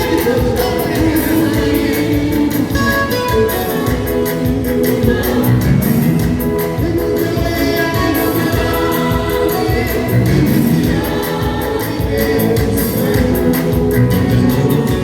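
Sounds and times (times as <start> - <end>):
choir singing gospel: 0.0 - 15.0
instrumental backing with beat: 0.0 - 15.0.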